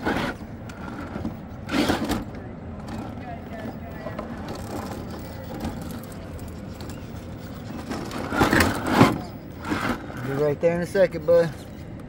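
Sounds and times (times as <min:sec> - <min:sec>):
tyres scraping against rock: 0:00.0 - 0:10.7.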